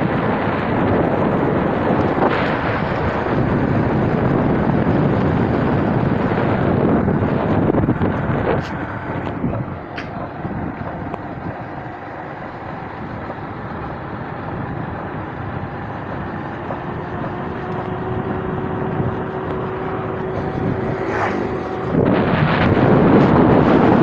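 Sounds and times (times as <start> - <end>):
steady hum: 0.0 - 24.0
vehicle engine and road rumble: 0.0 - 24.0.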